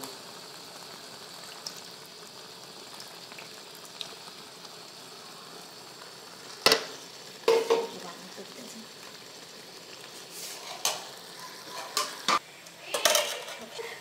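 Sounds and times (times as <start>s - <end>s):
sauce simmering in a pan: 0.0s - 14.0s.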